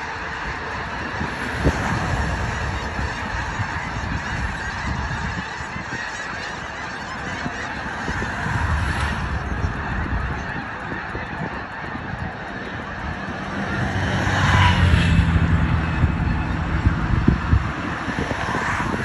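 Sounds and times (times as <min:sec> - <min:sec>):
flock of geese honking: 0:00.0 - 0:19.0.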